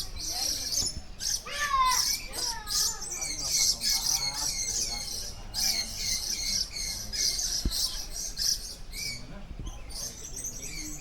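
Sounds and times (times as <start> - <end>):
high chattering bird chirp: 0.0 - 11.0.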